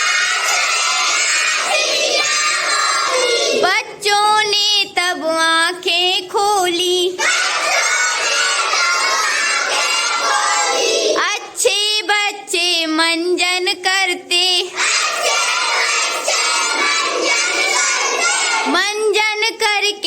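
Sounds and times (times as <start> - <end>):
children chanting a rhyme: 0.0 - 5.9, 6.6 - 13.0, 14.6 - 19.0.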